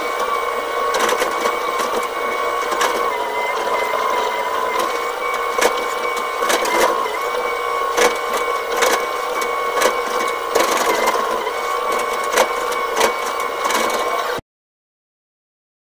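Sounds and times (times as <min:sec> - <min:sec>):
excavator engine whine: 0:00.0 - 0:14.4.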